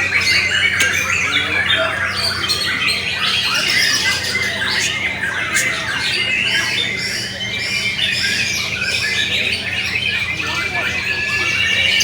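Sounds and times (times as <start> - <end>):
birds singing in chorus: 0.0 - 12.0.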